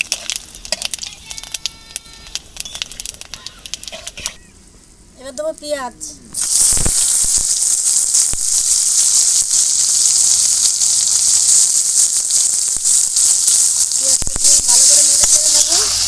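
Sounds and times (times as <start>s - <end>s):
onions sizzling in hot oil: 0.0s - 4.3s, 6.4s - 16.0s.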